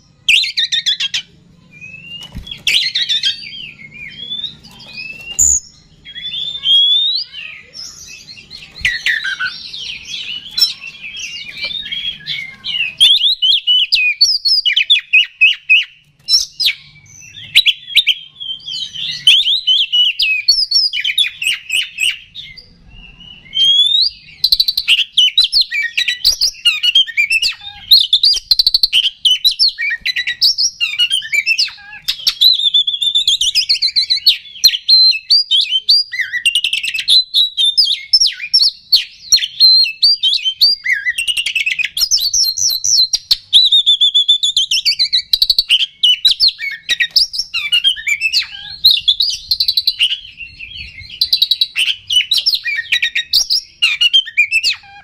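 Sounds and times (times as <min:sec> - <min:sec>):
bird singing whistles and chatters: 0:00.0 - 0:55.0.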